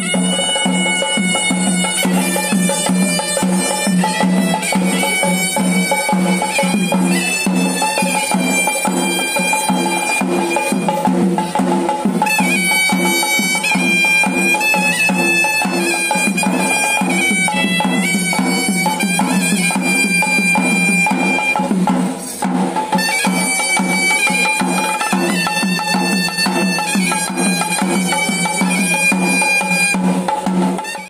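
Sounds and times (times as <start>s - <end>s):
shrill reed pipe melody: 0.0s - 21.8s, 22.9s - 31.0s
double-headed drums beating: 0.0s - 31.0s.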